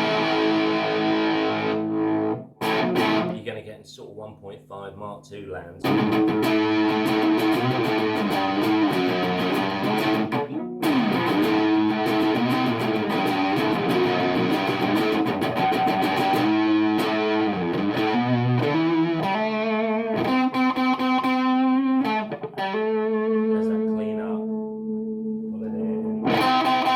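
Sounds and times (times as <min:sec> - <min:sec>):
fuzzed electric guitar: 0:00.0 - 0:03.4, 0:05.8 - 0:26.9.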